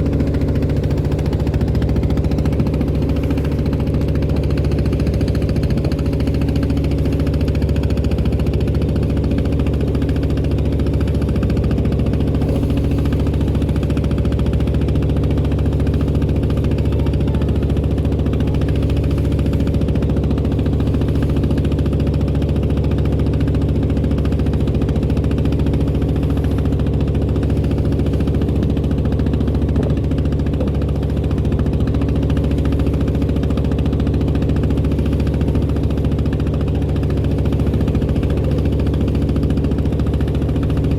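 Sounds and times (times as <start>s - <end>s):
motorboat engine knocking: 0.0s - 40.9s.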